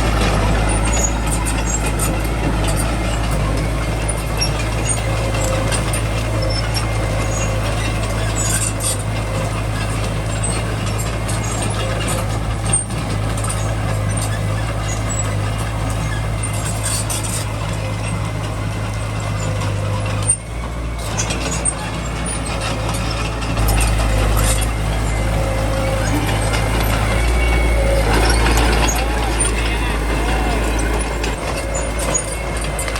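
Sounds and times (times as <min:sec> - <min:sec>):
bulldozer diesel engine running: 0:00.0 - 0:32.9
light squeaks and clicks: 0:00.2 - 0:32.9.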